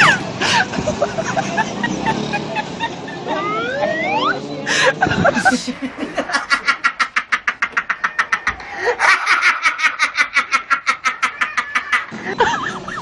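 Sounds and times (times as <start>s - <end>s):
rapid cackling laughter: 0.0s - 3.6s, 4.7s - 13.0s.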